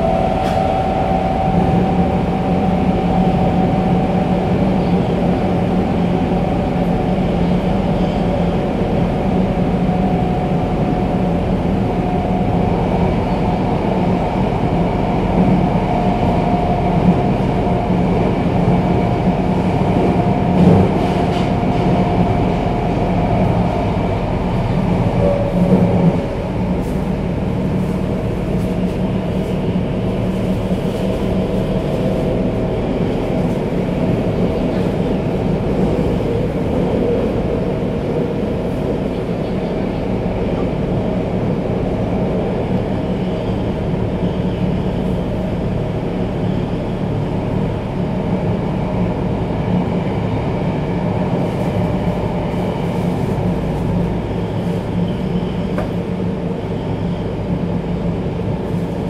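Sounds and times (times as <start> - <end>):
subway wheels rumbling: 0.0 - 59.0.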